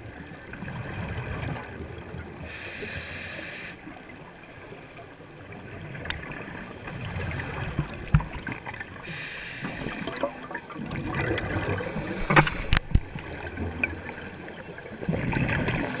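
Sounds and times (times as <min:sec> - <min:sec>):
regulator bubbles gurgling underwater: 0:00.0 - 0:16.0.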